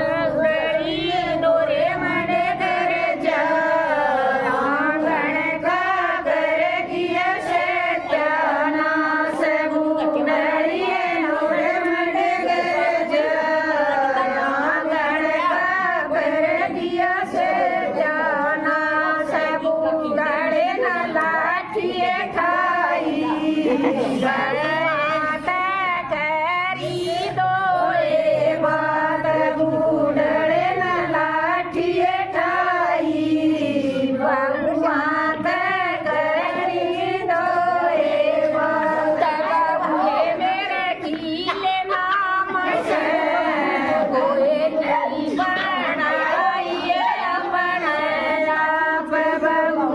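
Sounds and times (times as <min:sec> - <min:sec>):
woman singing devotional song: 0:00.0 - 0:49.9.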